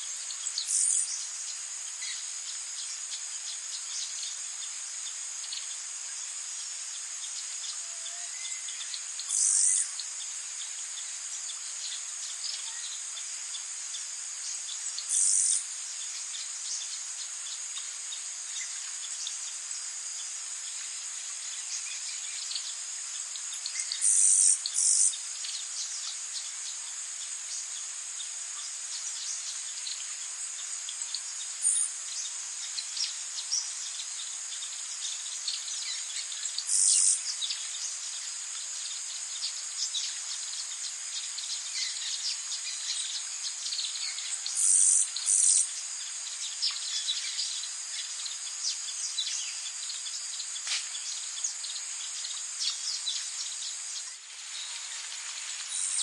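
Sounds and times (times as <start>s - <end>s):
high-pitched insect chorus: 0.0s - 56.0s
loud insect buzz: 0.0s - 56.0s.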